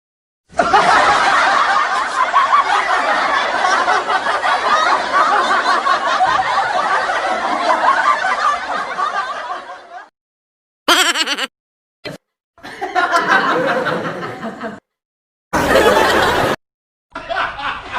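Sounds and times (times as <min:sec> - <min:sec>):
crowd laughing: 0:00.5 - 0:10.1, 0:10.9 - 0:11.5, 0:12.1 - 0:15.0, 0:15.6 - 0:17.9.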